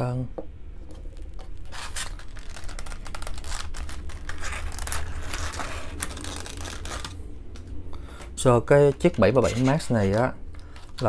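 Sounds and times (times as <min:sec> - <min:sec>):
steady low hum: 0:00.0 - 0:11.0
packaging clicks and rustles: 0:01.1 - 0:11.0.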